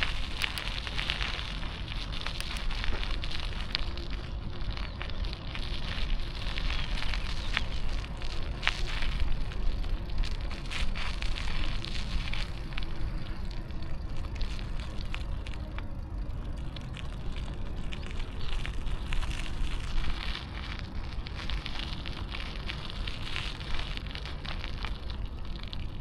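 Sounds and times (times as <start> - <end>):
bicycle road noise: 0.0 - 26.0
crackles and clicks: 0.0 - 26.0
wind noise on microphone: 0.0 - 26.0.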